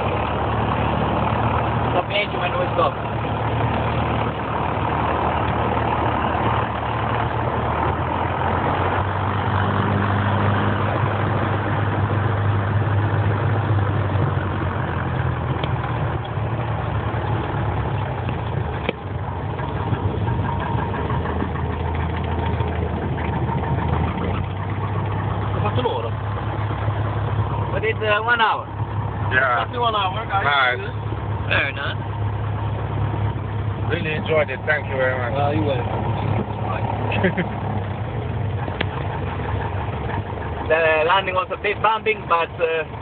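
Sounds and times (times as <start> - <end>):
light aircraft engine droning: 0.0 - 43.0.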